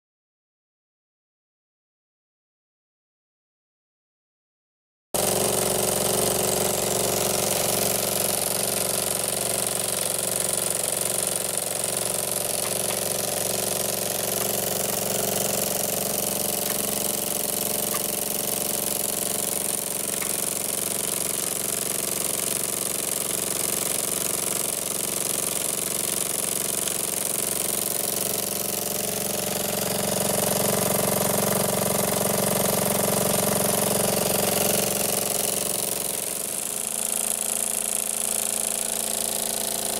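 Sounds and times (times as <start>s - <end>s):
model steam engine running: 5.2s - 39.9s.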